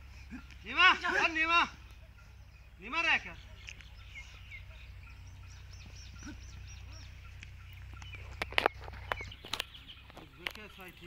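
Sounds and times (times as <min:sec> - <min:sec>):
birds chirping: 0:00.0 - 0:11.0
steady low rumble: 0:01.4 - 0:11.0.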